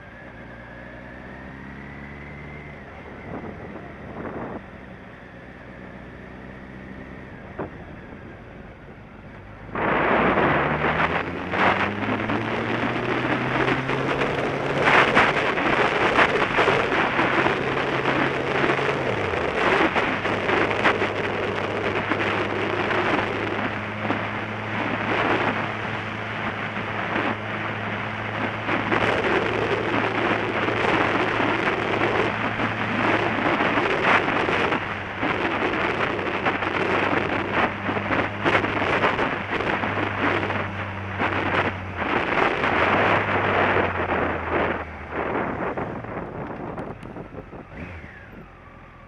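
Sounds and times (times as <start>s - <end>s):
motorcycle engine drone: 0.0s - 49.0s
wind rushing over microphone: 0.0s - 49.0s.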